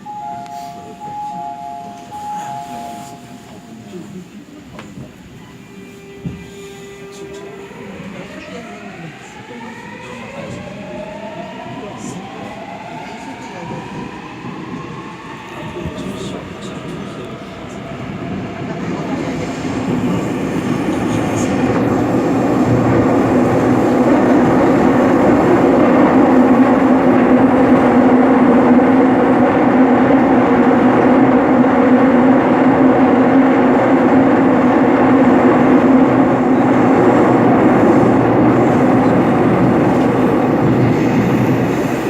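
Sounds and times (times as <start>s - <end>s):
subway train wheels rumbling: 0.0s - 42.0s.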